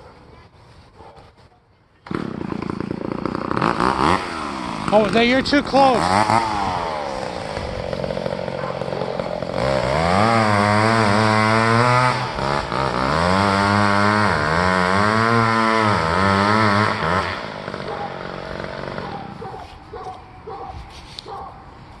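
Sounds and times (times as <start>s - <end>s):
chainsaw cutting wood: 2.0s - 20.2s.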